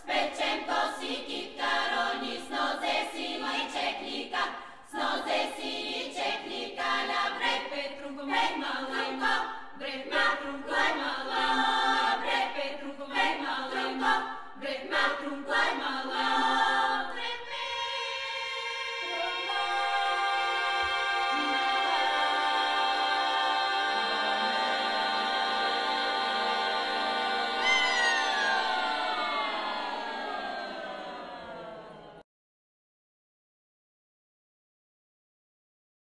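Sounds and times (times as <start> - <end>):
choir singing a cappella: 0.0 - 32.2.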